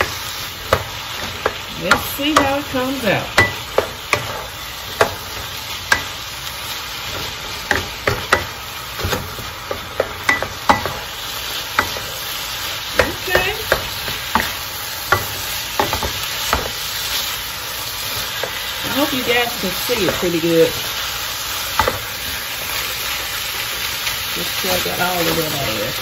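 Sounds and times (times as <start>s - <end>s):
rice sizzling in a wok: 0.0s - 26.0s.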